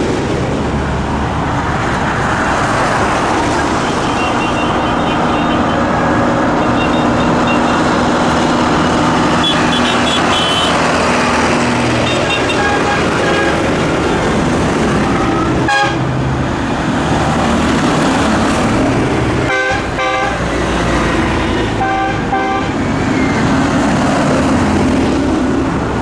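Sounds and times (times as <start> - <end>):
tractor diesel engines passing: 0.0 - 26.0.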